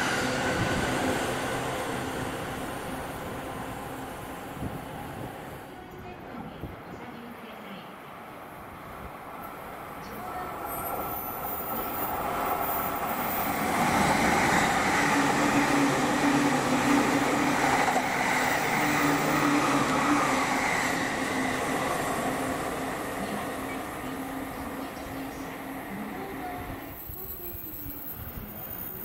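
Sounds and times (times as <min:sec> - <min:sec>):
electric train passing: 0:00.0 - 0:06.0, 0:08.3 - 0:29.0.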